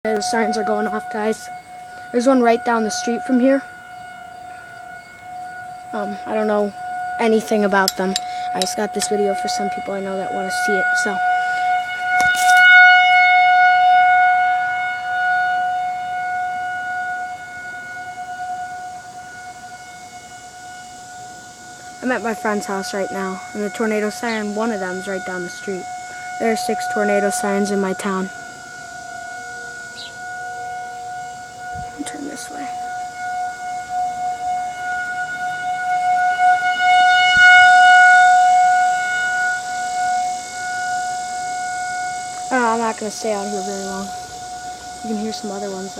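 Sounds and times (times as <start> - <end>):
tornado siren steady high tone: 0.0 - 45.9.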